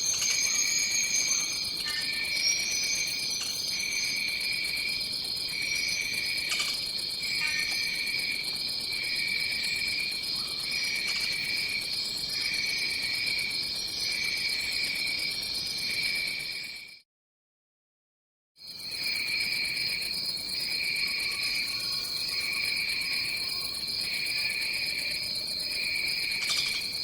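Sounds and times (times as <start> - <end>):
lower trilling insect call: 0.0 - 16.9, 18.7 - 27.0.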